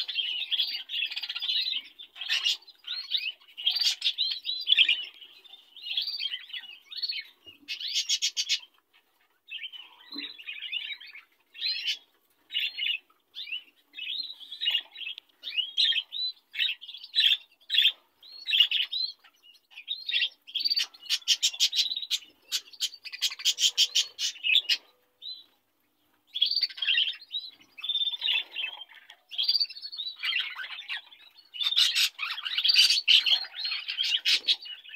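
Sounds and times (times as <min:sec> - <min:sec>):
budgerigars chattering and warbling: 0:00.0 - 0:25.5, 0:26.3 - 0:34.9.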